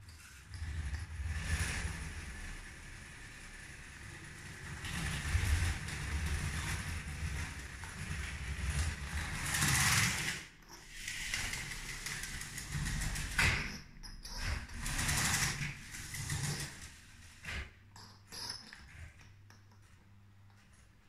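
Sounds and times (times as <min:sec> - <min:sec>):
toy train rattling on track: 0:00.4 - 0:19.2.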